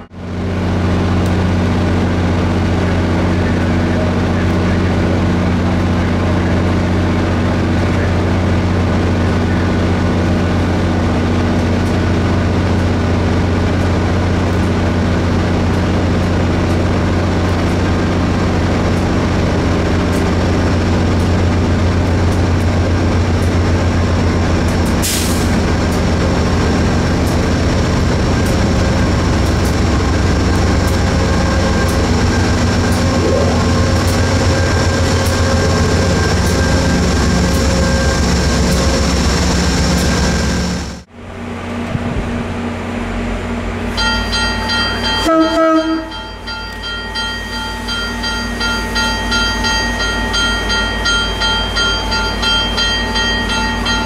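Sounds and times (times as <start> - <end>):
train running hum: 0.0 - 54.0.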